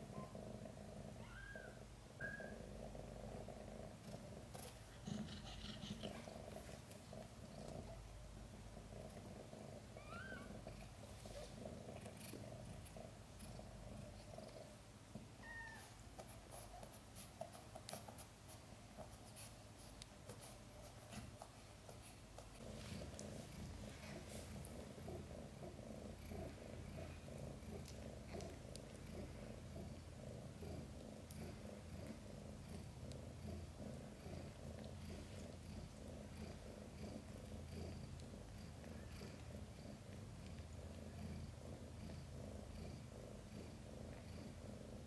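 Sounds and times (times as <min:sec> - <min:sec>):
cat purring: 0:00.0 - 0:45.0.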